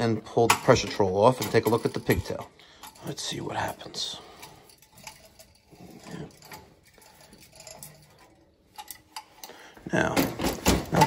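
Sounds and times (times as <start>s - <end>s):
light metallic rattles: 0.4s - 11.0s.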